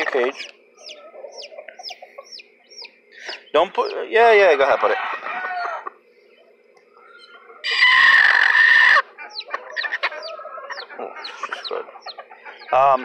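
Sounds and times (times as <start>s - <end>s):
hen squawking: 0.0s - 6.0s, 7.0s - 13.0s
hen clucking: 0.0s - 13.0s.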